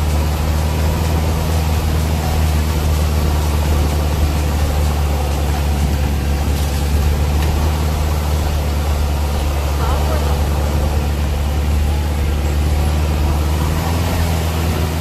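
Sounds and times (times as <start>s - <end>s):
rushing water under vehicle: 0.0s - 15.0s
vehicle engine humming: 0.0s - 15.0s.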